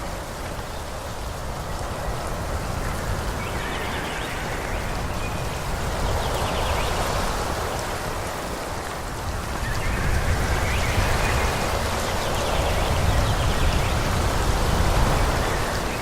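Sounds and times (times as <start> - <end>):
wind blowing through forest: 0.0 - 16.0.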